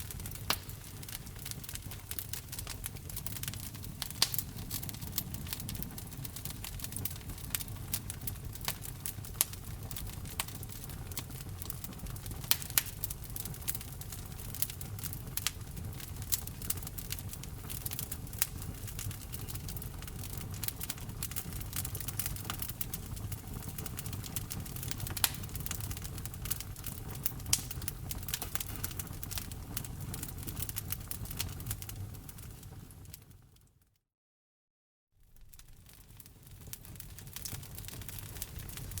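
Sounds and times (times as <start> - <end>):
low rumble of flames: 0.0 - 33.6, 35.2 - 39.0
fire crackling and popping: 0.0 - 33.7, 35.2 - 39.0.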